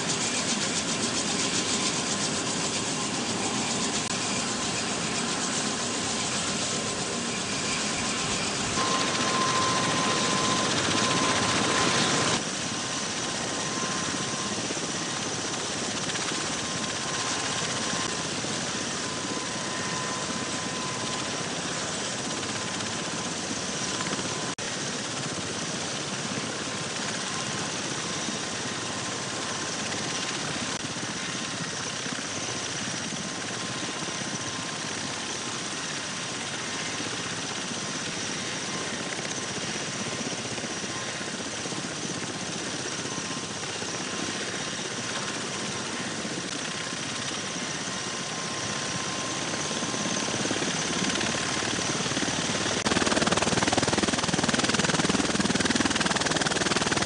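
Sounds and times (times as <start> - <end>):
aircraft rotors and turbine whine: 0.0 - 57.0.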